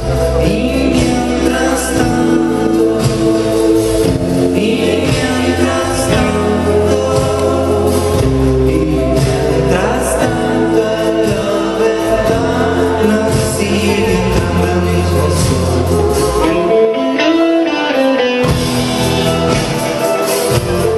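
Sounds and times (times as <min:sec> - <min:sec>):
person singing: 0:00.0 - 0:20.9
rock band playing: 0:00.0 - 0:20.9.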